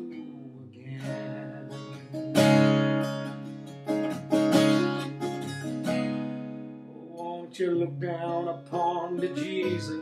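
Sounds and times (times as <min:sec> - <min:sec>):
fingerpicked acoustic guitar: 0:00.0 - 0:10.0.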